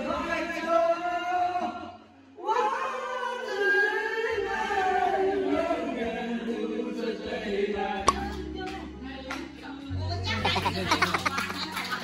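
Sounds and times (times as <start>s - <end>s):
two men singing karaoke: 0.0s - 11.4s.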